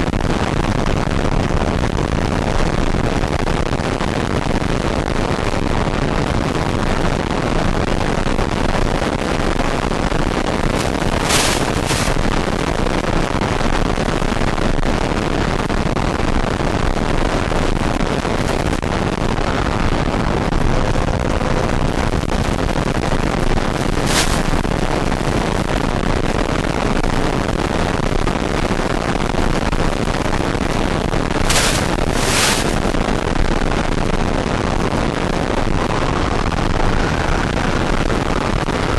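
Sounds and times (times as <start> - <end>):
wind on microphone: 0.0 - 14.1, 15.1 - 38.9.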